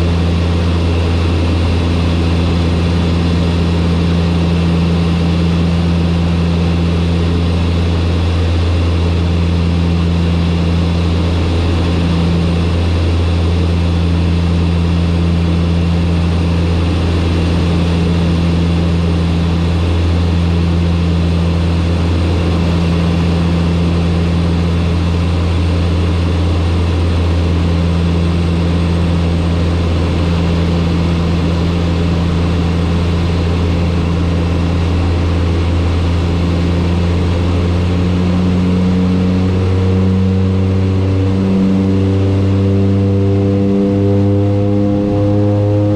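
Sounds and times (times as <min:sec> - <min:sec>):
turboprop aircraft engines droning: 0:00.0 - 0:45.9.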